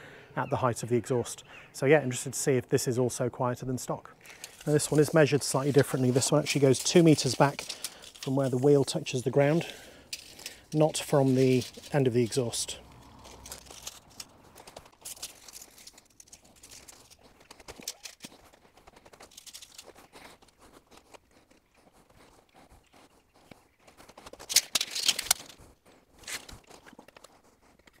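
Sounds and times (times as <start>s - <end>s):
footsteps on gravel: 4.2s - 27.0s.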